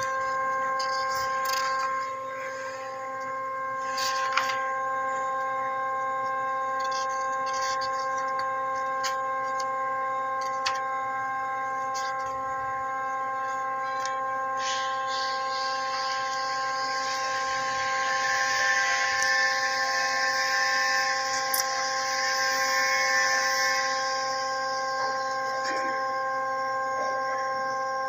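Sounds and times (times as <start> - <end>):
shop machinery humming: 0.0 - 28.0.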